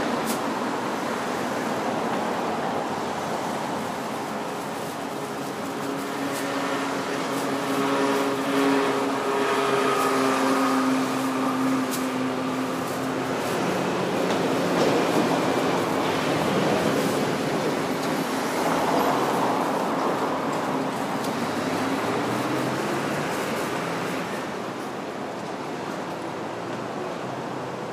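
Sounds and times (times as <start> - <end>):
electric train running on track: 0.0 - 27.4.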